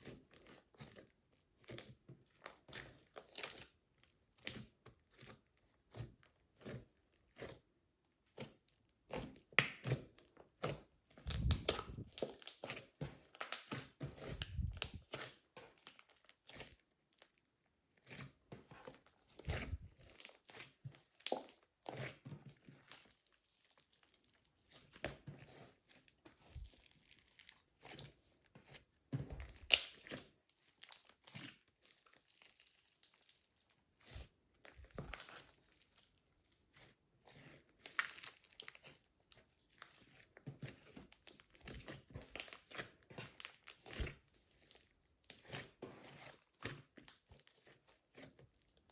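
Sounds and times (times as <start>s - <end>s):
slime squishing: 0.0s - 3.7s, 8.3s - 48.9s.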